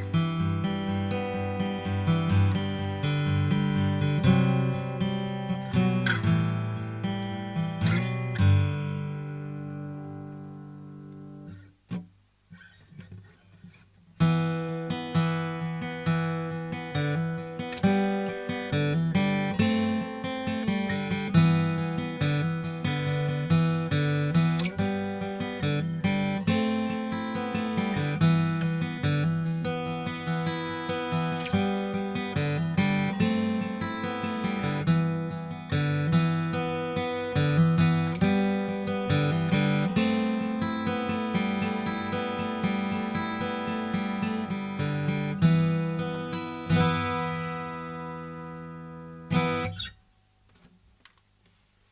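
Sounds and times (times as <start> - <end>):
acoustic guitar picking chords: 0.0 - 50.6.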